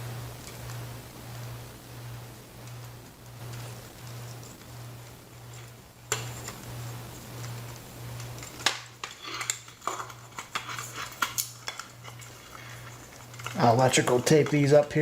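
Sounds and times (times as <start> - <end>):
steady low hum: 0.0 - 15.0
wires and connectors clicking: 2.6 - 15.0.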